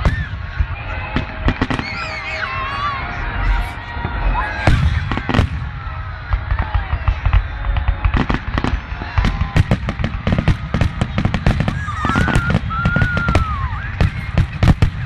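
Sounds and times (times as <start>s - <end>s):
deep fireworks booms: 0.0s - 15.0s
fireworks bangs and crackles: 0.0s - 15.0s.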